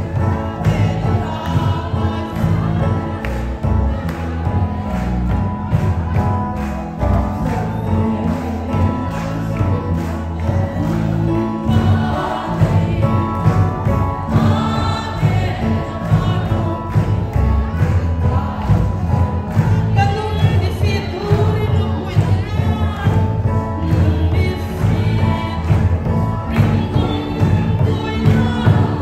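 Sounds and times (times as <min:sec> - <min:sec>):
choir singing gospel: 0:00.0 - 0:29.0
heavy bass: 0:00.0 - 0:29.0
steady drum beat: 0:00.0 - 0:29.0.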